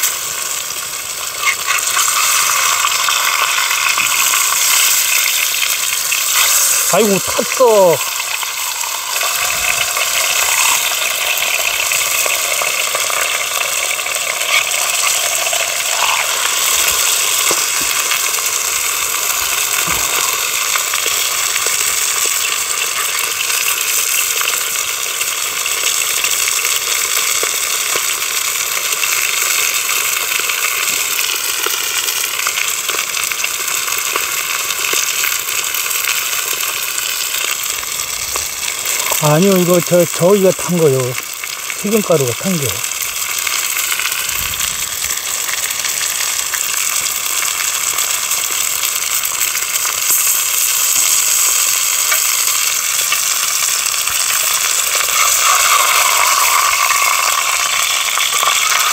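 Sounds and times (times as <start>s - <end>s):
faint crackles: 0.0s - 58.9s
fish frying in hot oil: 0.0s - 58.9s.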